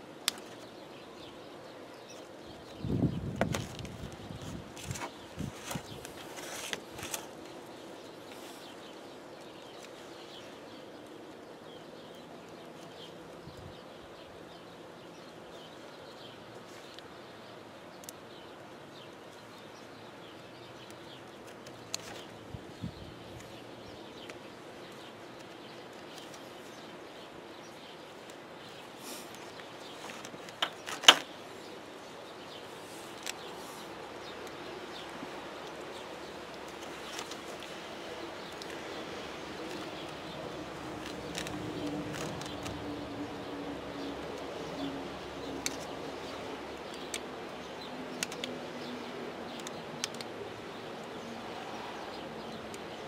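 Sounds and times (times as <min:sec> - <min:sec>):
faint outdoor background: 0:00.0 - 0:53.0.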